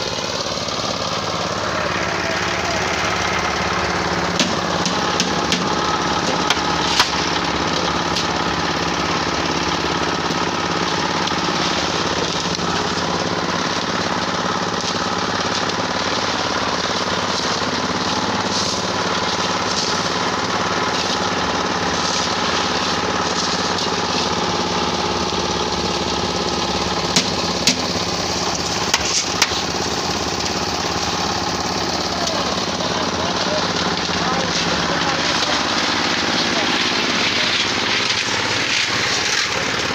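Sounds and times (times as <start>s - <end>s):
concrete mixer engine chugging: 0.0s - 39.9s.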